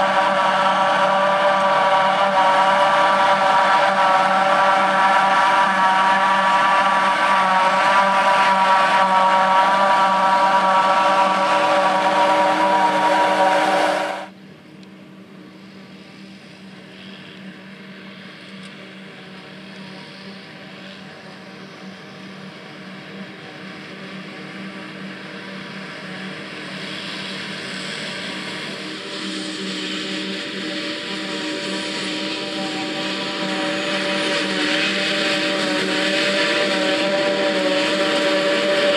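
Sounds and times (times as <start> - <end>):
harvester and tractor engines: 0.0 - 38.9
steady engine hum: 0.0 - 38.9.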